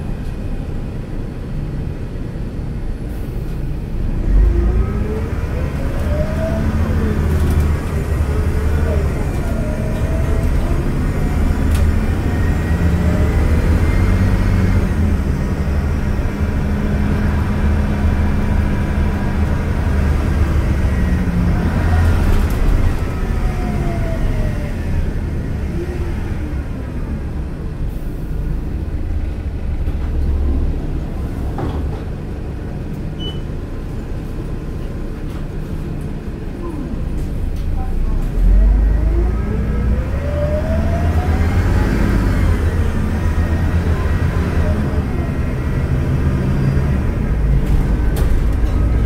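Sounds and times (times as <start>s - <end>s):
bus engine drone: 0.0s - 49.0s.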